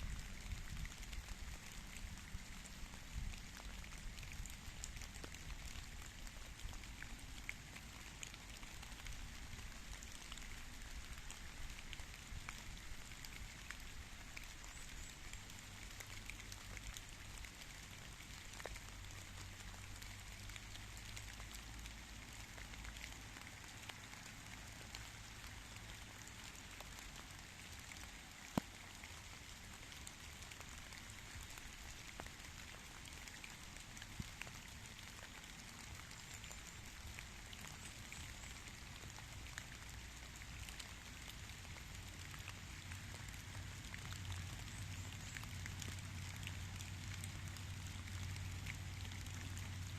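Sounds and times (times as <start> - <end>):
sharp raindrop: 0.0 - 49.9
steady rain falling: 0.0 - 49.9.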